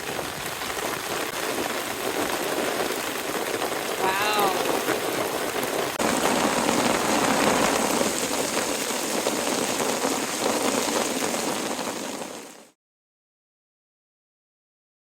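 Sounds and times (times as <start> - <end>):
heavy rain falling: 0.0 - 12.8.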